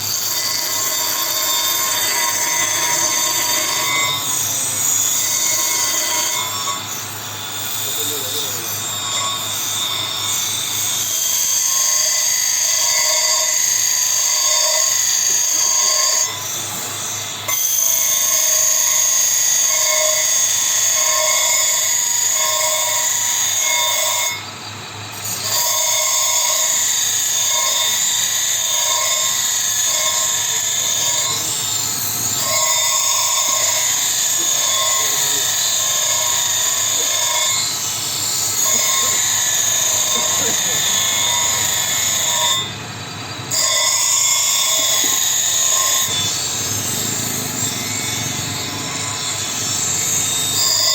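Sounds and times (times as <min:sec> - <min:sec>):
power tool whining: 0:00.0 - 0:50.9.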